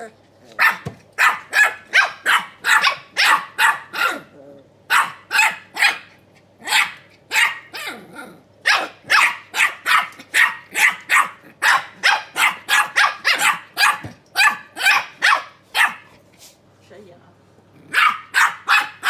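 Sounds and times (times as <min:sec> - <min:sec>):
puppies barking: 0:00.5 - 0:04.3, 0:04.9 - 0:16.1, 0:17.9 - 0:19.0.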